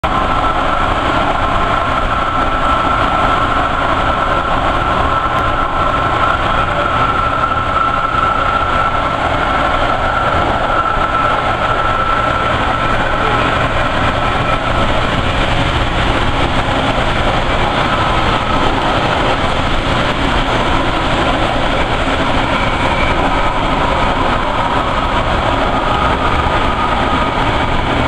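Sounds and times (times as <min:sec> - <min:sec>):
high even whine: 0:00.0 - 0:28.0
light-rail train rumbling: 0:00.0 - 0:28.0.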